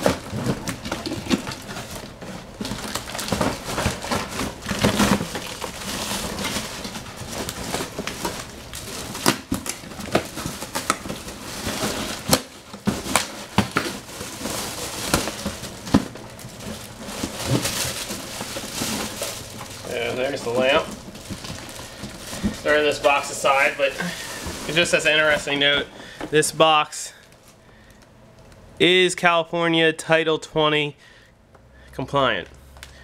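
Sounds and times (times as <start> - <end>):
plastic wrap crinkling and tearing: 0.0 - 28.6.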